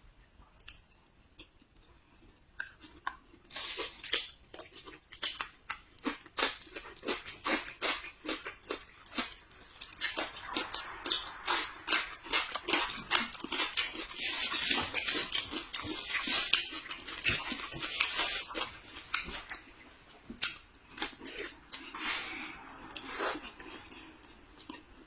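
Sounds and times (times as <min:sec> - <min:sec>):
chewing and mouth smacks: 0:00.4 - 0:22.0.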